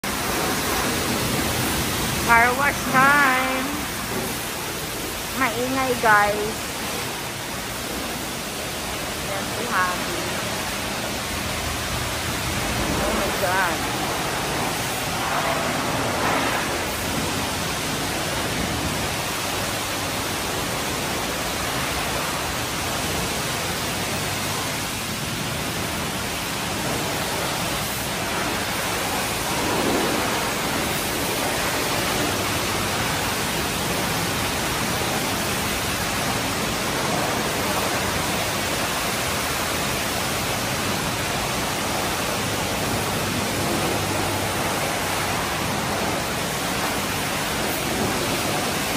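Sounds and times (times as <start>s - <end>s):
high-pressure water jets spraying: 0.0s - 48.9s.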